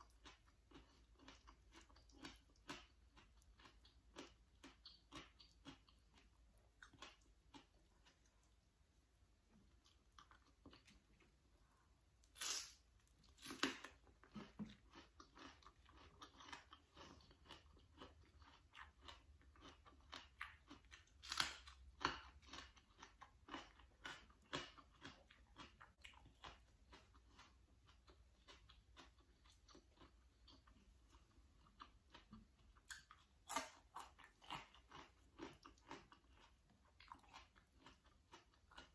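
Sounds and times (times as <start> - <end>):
chewing and crunching vegetables: 0.0 - 38.9.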